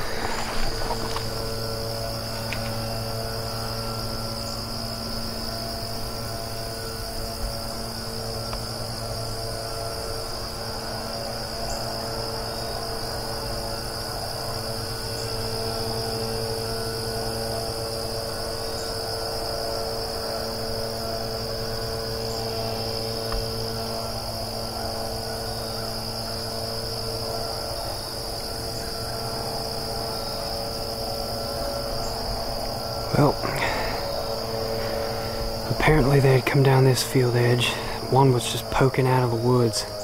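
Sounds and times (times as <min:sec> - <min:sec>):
crickets trilling: 0:00.0 - 0:40.0
distant engine hum: 0:00.0 - 0:40.0.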